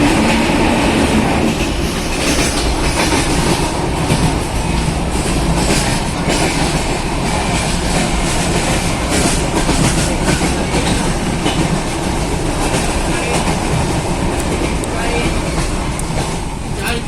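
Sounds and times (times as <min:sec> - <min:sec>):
train wheels on track: 0:00.0 - 0:17.0.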